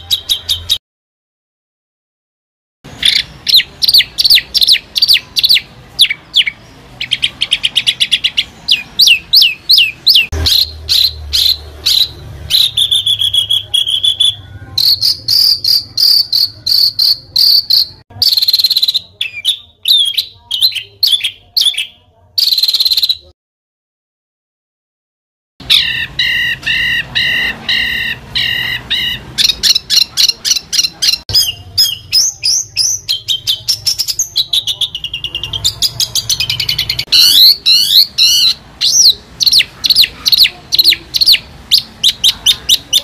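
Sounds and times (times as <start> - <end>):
songbird song with trills: 2.9 - 23.3, 25.6 - 43.0.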